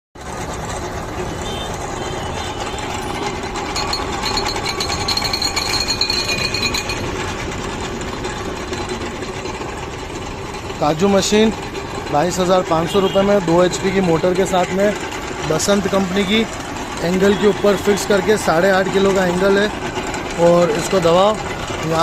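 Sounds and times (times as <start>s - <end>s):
grinding machine rattle and whir: 0.2s - 22.0s.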